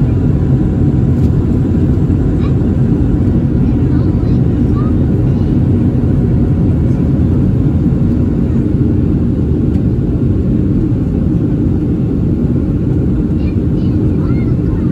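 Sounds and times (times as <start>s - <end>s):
jet engine cabin rumble: 0.0s - 14.9s.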